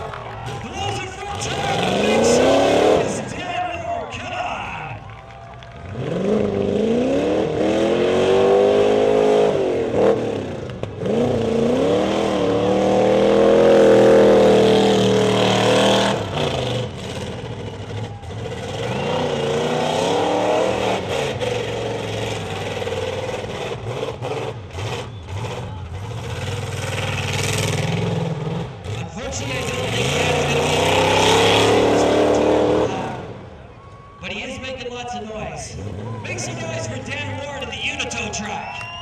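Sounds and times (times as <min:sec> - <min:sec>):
truck engine revving hard: 0:00.0 - 0:03.7, 0:05.8 - 0:33.6, 0:35.6 - 0:38.0.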